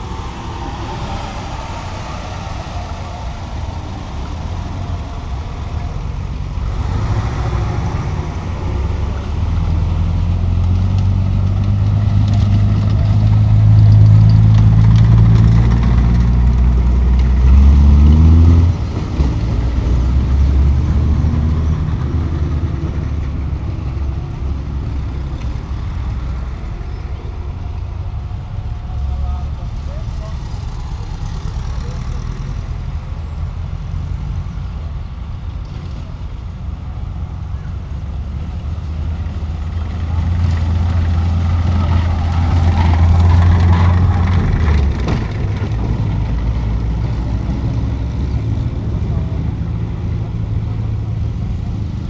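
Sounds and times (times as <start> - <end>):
engine revving: 0.0 - 33.2, 37.0 - 52.0
vehicle engines driving past: 0.0 - 52.0.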